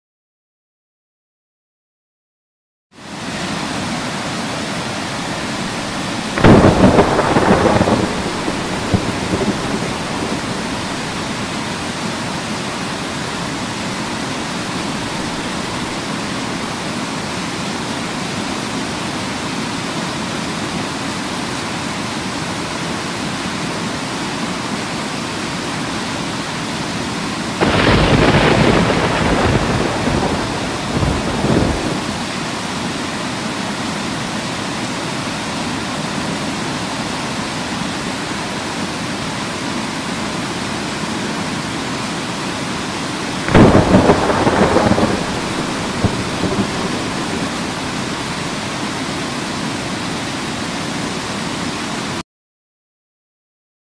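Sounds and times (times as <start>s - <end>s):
rain: 2.9s - 52.2s
waterfall rushing: 3.0s - 52.2s.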